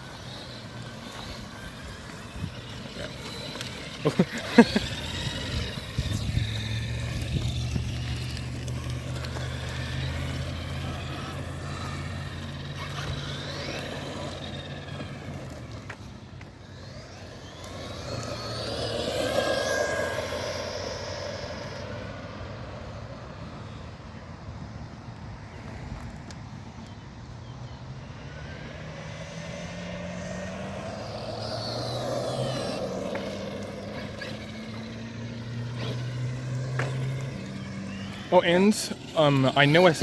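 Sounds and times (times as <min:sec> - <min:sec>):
low engine hum: 0:00.0 - 0:40.0
vehicle passing: 0:00.0 - 0:40.0.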